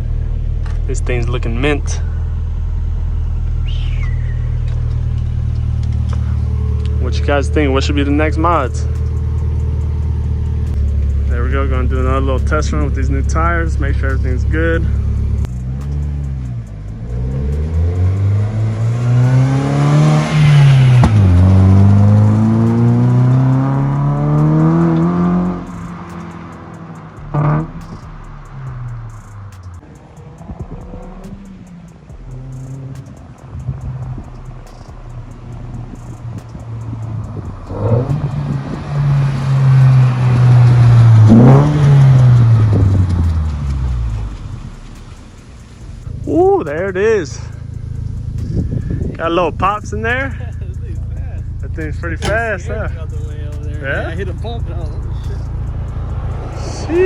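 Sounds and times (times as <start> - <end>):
engine accelerating hard: 0.0 - 57.0.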